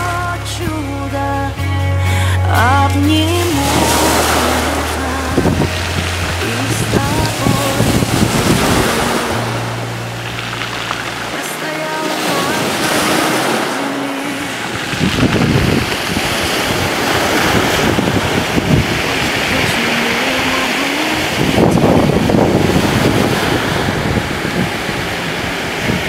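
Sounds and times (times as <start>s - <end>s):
surf washing up pebble shore: 3.0s - 26.0s
wind buffeting microphone: 3.2s - 11.6s, 12.2s - 26.0s.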